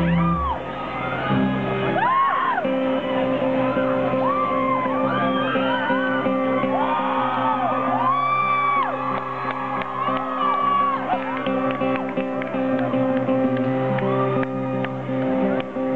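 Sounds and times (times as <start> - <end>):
audience whooping and shouting: 0.0 - 13.0.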